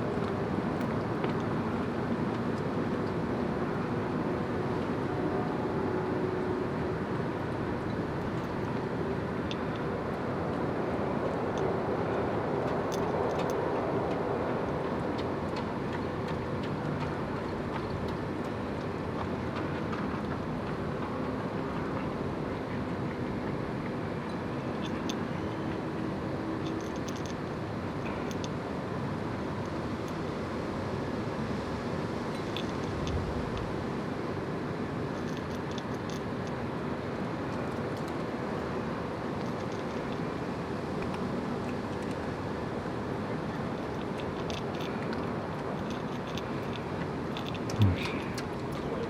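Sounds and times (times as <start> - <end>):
outdoor background rumble: 0.0 - 49.0.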